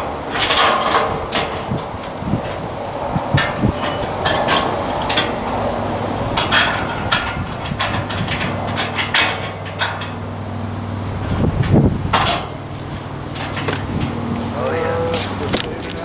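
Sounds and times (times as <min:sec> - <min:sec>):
steady low hum: 0:00.0 - 0:16.0
metallic clanks and taps: 0:00.3 - 0:02.7, 0:03.4 - 0:10.3, 0:11.1 - 0:16.0.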